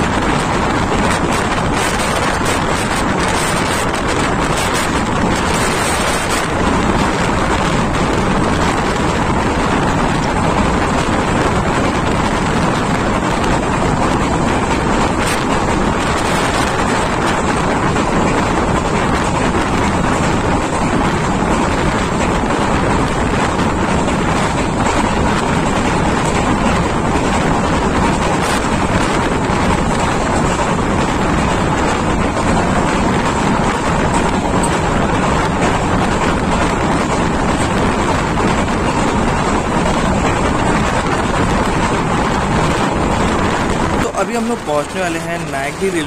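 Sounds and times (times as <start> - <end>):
moving train running noise: 0.0 - 46.0
wind buffeting microphone: 0.0 - 46.0.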